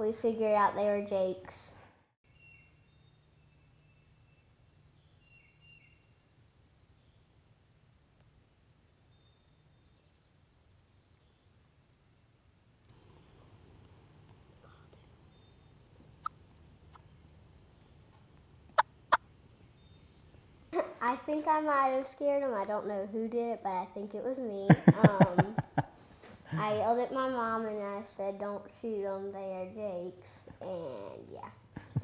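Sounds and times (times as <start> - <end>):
small birds chirping: 0.2 - 32.0.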